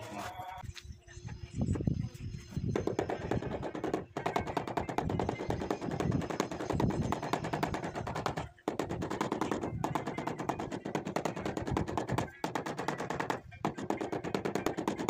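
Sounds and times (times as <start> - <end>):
rubber mallet tapping on tile: 2.8 - 15.0.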